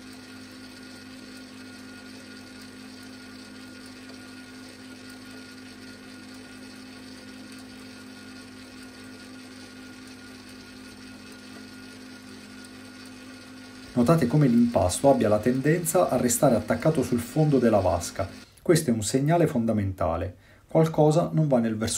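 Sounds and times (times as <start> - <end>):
dough mixer motor humming: 0.0 - 18.5.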